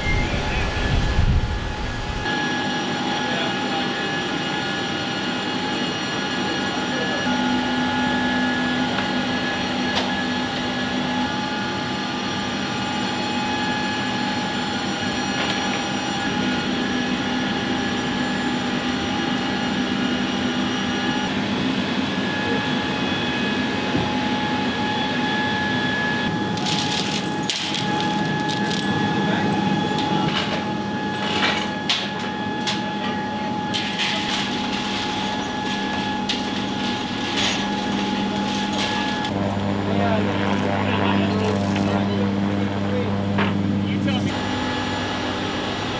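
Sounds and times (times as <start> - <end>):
aircraft machinery whine: 0.0 - 45.9.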